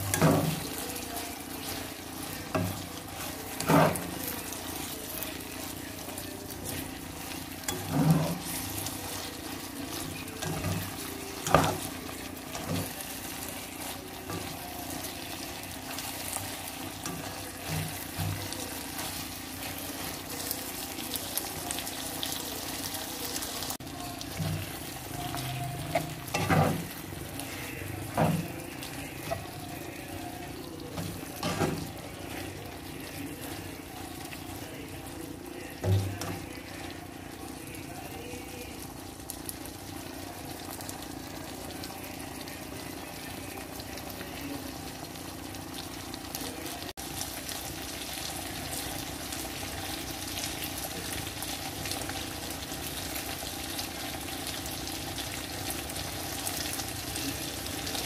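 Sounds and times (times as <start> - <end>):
food sizzling in a wok: 0.0 - 58.0.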